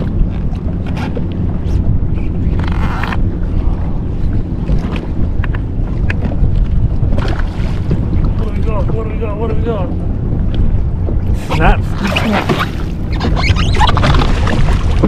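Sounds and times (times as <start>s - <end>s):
water rumbling around jet ski: 0.0s - 15.0s
wind buffeting microphone: 0.0s - 15.0s.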